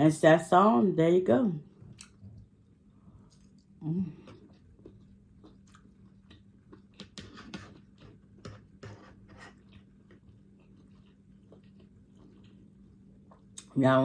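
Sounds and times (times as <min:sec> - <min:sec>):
person chewing and smacking: 0:01.8 - 0:02.6, 0:03.2 - 0:13.8.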